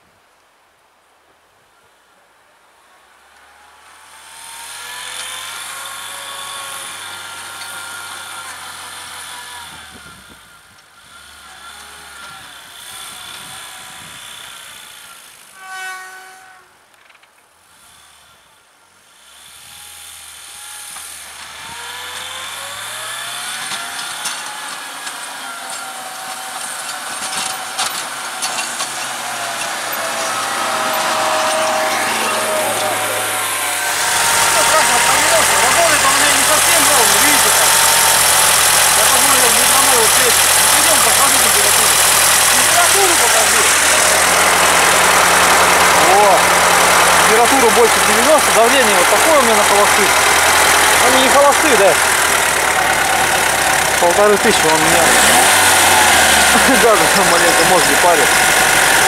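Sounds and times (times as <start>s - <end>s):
tractor engine revving: 3.2s - 15.8s, 17.7s - 59.0s.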